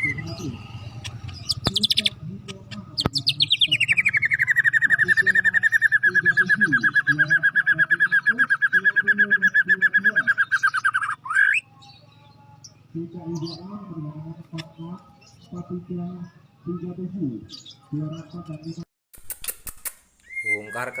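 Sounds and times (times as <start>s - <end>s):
bird singing rapid trill: 0.0s - 18.9s, 20.2s - 21.0s.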